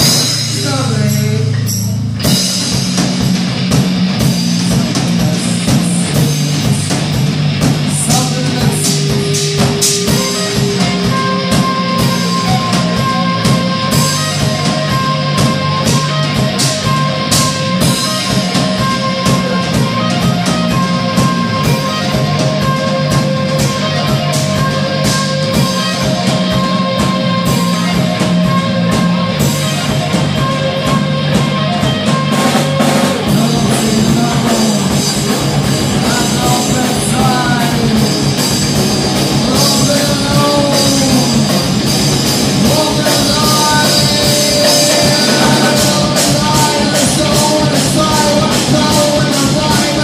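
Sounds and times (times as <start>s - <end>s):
bending guitar notes: 0.0s - 50.0s
drum hits: 0.0s - 50.0s
rock band playing live: 0.0s - 50.0s.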